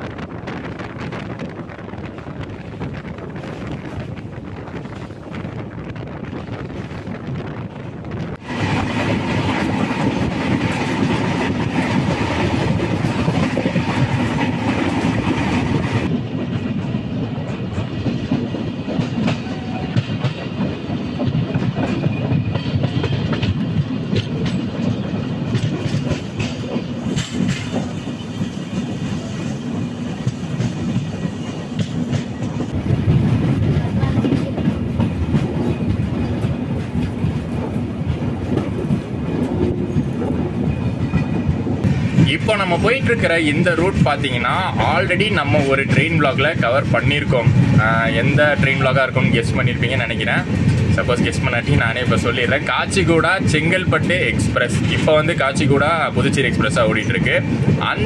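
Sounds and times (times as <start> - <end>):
train coaches rumbling: 0.0 - 58.0
wheels clacking over rail joints: 7.5 - 58.0.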